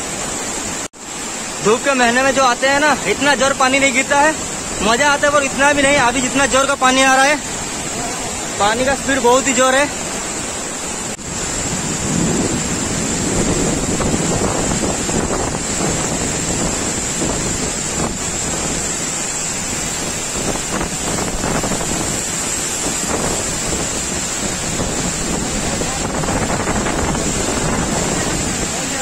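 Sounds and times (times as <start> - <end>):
waterfall roaring: 0.0 - 29.0.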